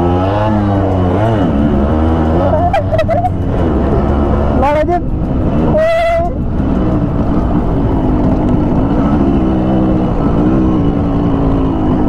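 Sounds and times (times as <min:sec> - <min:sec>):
dense low rumble: 0:00.0 - 0:12.0
two-stroke motorcycle engine: 0:00.0 - 0:12.0.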